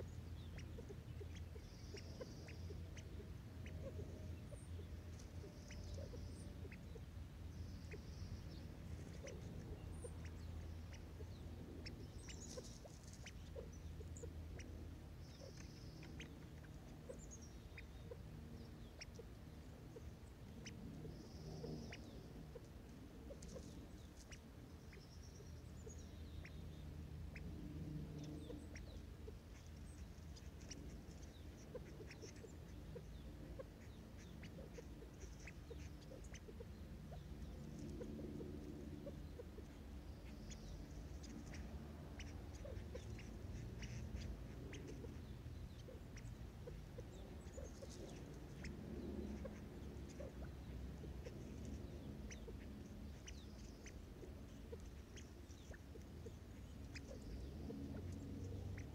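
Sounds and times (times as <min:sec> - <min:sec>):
low steady hum: 0:00.0 - 0:58.9
quail pecking birdseed clicks: 0:00.4 - 0:07.0, 0:07.8 - 0:25.3, 0:27.3 - 0:58.9.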